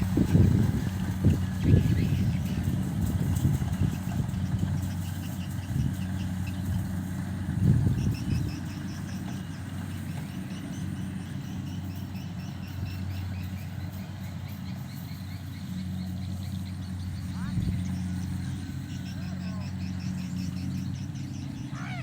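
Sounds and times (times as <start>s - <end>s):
harvester engine humming: 0.0s - 22.0s.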